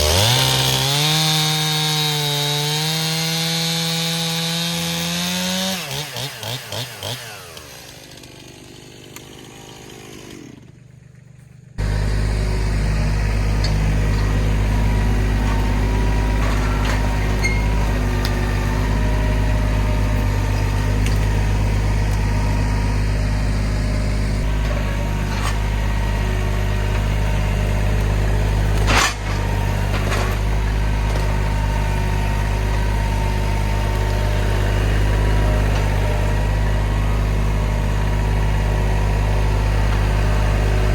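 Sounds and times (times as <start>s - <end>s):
chainsaw: 0.0s - 40.9s
tractor diesel engine running: 0.0s - 40.9s.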